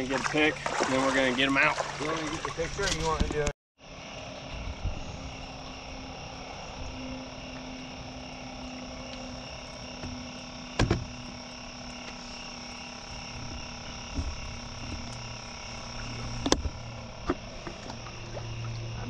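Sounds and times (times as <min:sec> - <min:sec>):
insects trilling: 0:00.0 - 0:19.0
low steady hum: 0:00.0 - 0:19.0.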